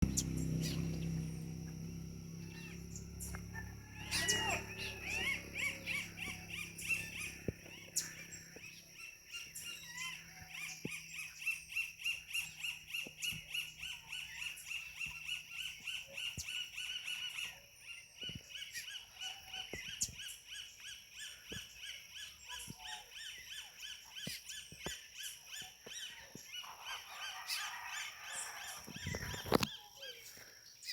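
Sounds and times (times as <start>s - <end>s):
birds calling in quick notes: 0.0s - 30.9s.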